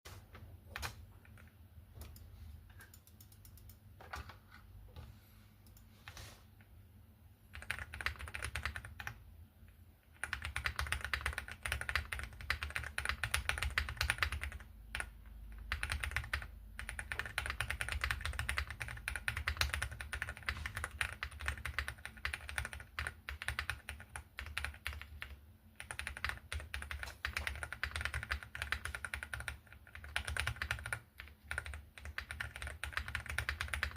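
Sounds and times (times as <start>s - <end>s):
mechanical keyboard typing: 0.7s - 4.4s, 7.5s - 9.3s, 10.1s - 33.9s.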